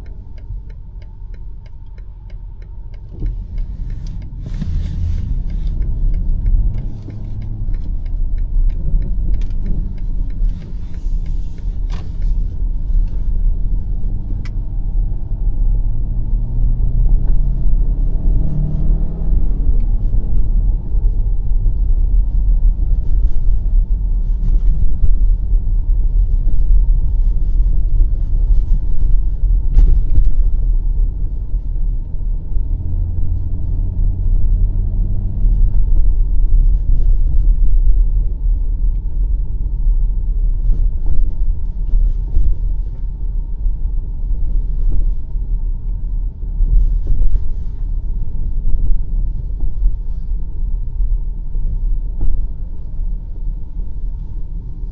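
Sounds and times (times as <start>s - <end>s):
car engine drone: 0.0s - 54.9s
tyre and road noise: 0.0s - 54.9s.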